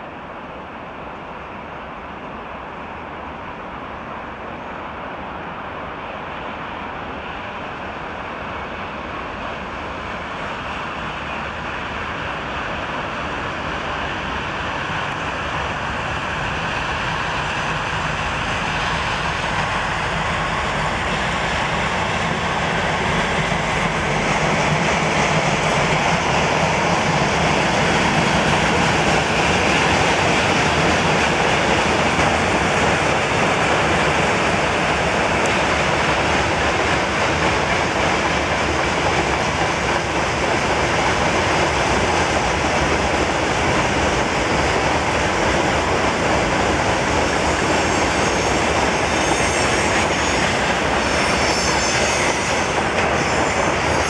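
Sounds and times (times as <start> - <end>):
train wheels rumbling on rails: 6.3 - 54.0
diesel locomotive engines running: 9.0 - 54.0.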